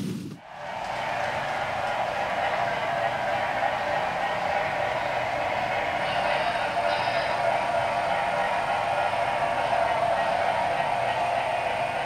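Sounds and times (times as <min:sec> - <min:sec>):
model train running: 0:00.4 - 0:12.0.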